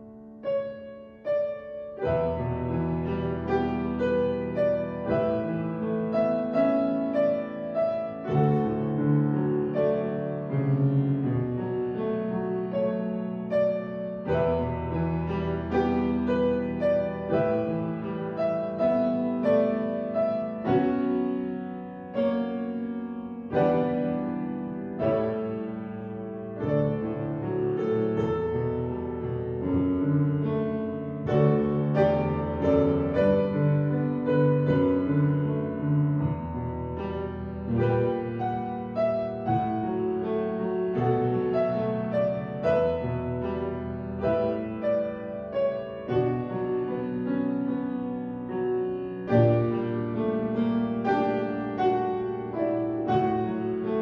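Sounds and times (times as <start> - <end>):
piano playing slow chords: 0.0 - 54.0.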